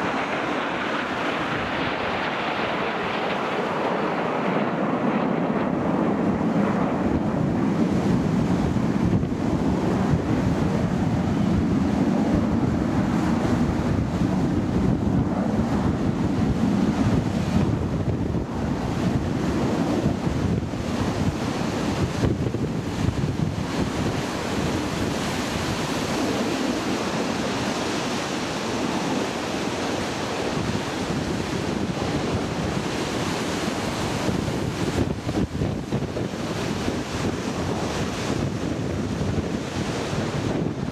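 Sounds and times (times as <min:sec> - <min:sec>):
jet roar overhead: 0:00.0 - 0:40.9
wind buffeting microphone: 0:00.0 - 0:40.9.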